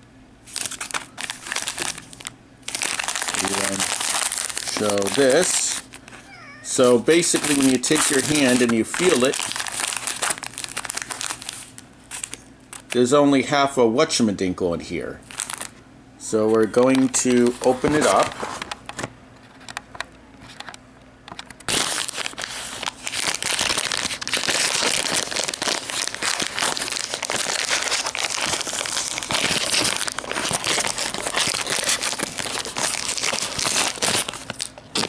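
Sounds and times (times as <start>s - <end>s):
wrapper crinkling: 0.5s - 13.1s, 15.2s - 15.8s, 16.4s - 18.9s, 21.4s - 35.0s.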